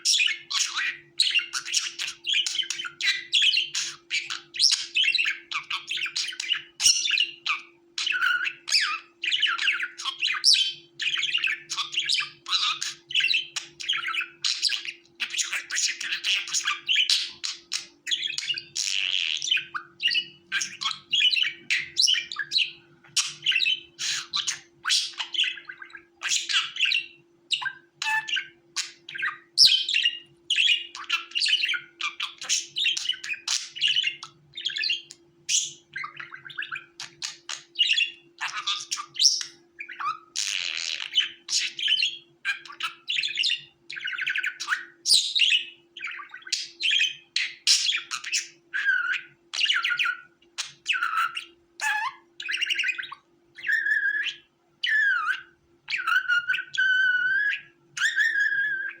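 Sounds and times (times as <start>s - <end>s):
budgerigars chirping and warbling: 0.0s - 59.0s.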